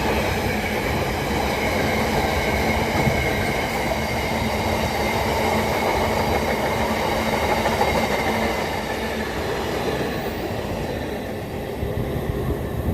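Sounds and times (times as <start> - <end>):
train passing at speed: 0.0 - 12.9.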